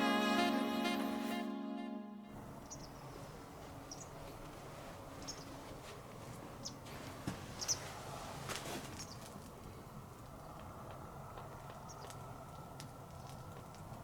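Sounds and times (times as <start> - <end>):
outdoor background noise: 2.3 - 14.0.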